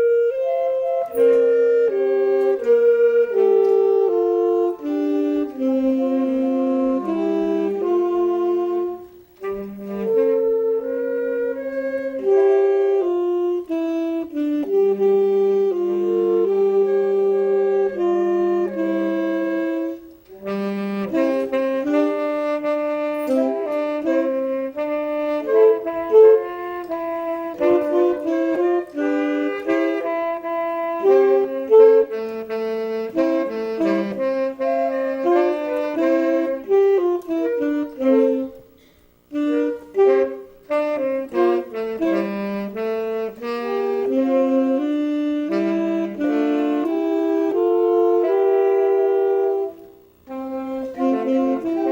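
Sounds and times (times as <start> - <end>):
instrumental music: 0.0 - 51.9.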